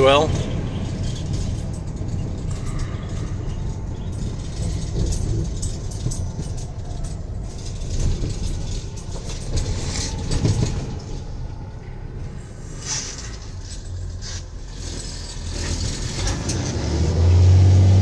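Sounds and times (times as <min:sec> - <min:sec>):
knocks and rattles: 0:00.0 - 0:17.0
diesel truck engine running: 0:00.0 - 0:18.0
road and tyre rumble: 0:00.0 - 0:18.0.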